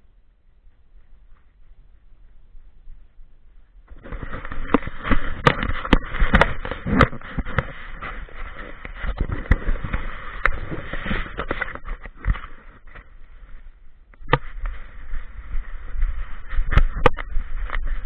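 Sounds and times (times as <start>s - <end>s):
hand rubbing fur on microphone: 0.7s - 18.0s.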